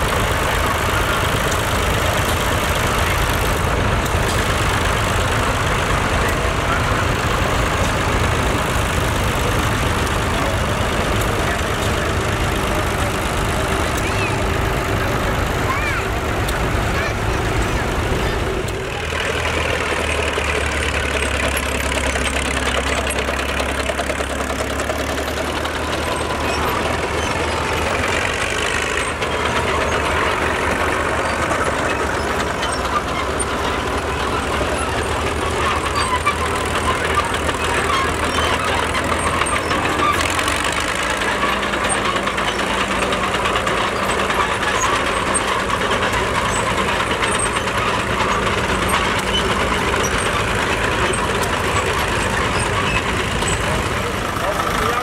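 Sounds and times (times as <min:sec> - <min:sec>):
diesel crawler tractors running: 0:00.0 - 0:55.0.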